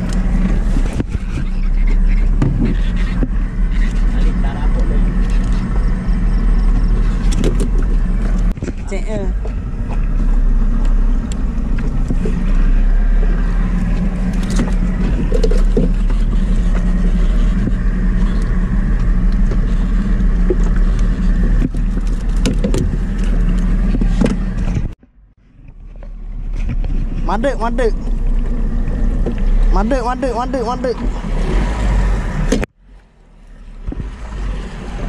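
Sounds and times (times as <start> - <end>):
boat engine humming: 0.0 - 35.0.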